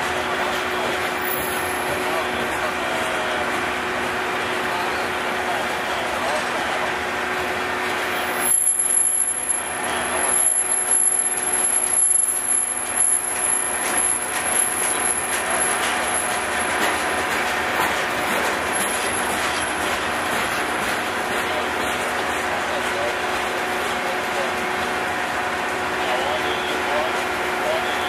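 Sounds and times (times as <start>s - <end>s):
freight train wheels clattering on rail: 0.0s - 28.0s.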